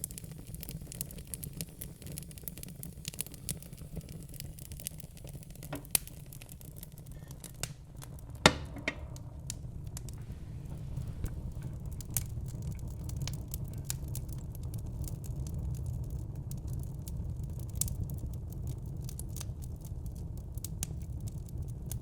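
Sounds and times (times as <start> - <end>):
fire crackling and popping: 0.0 - 22.0
low fire rumble: 0.0 - 22.0.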